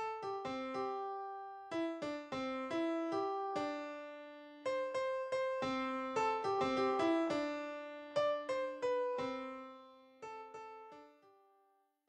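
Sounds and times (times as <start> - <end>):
solo keyboard melody: 0.0 - 11.3.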